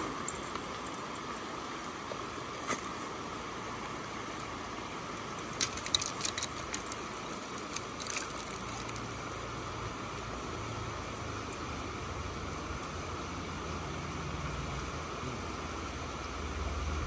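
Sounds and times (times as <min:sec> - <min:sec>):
river cobbles clicking: 0:00.0 - 0:16.5
river rushing: 0:00.0 - 0:17.0.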